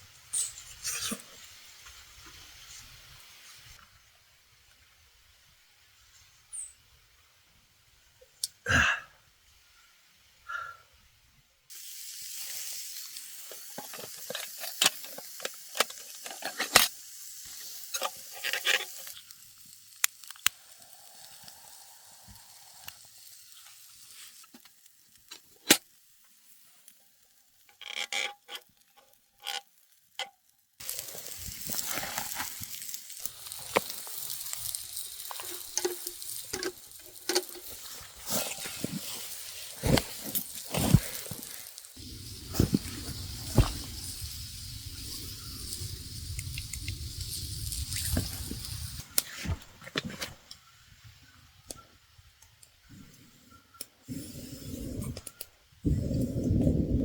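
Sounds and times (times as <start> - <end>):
cooking sizzling over campfire: 0.0 - 9.0, 11.6 - 57.0.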